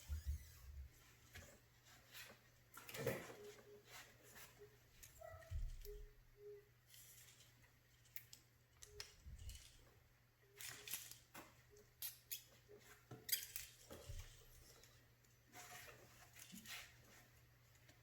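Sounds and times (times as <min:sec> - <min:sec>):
rustling and scratching of tape: 0:00.0 - 0:06.2, 0:06.8 - 0:18.0.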